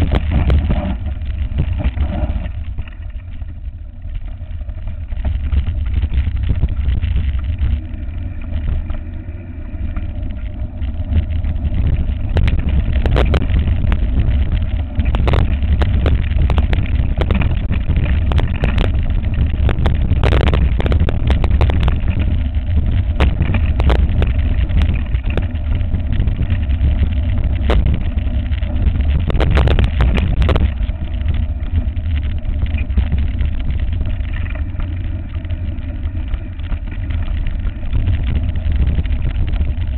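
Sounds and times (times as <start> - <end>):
bike rattling over stones: 0.0 - 39.9
wind buffeting microphone: 0.0 - 39.9.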